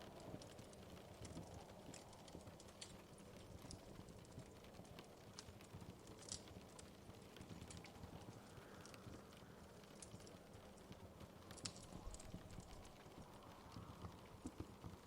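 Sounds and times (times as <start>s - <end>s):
faint wood fire crackling: 0.0s - 15.0s
low rumble of flames: 0.0s - 15.0s
sharp pops and snaps: 0.1s - 15.0s.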